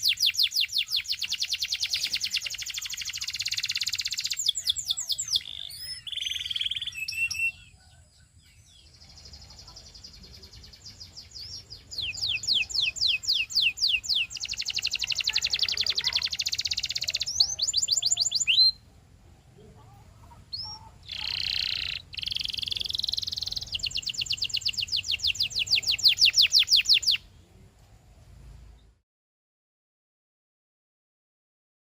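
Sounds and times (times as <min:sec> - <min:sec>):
canary singing: 0:00.0 - 0:18.9, 0:19.9 - 0:27.3.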